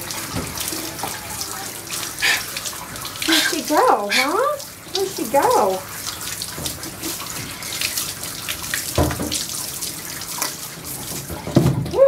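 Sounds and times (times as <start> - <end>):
water dripping off dog: 0.0 - 12.0
water running and splashing: 0.0 - 12.0.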